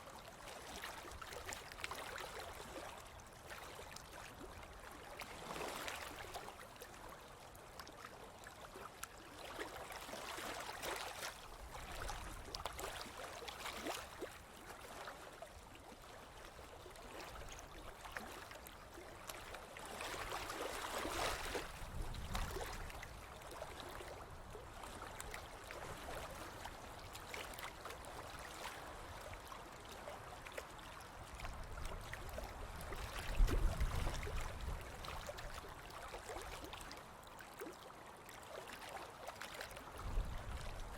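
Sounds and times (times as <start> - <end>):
small waves washing onto beach: 0.0 - 40.9.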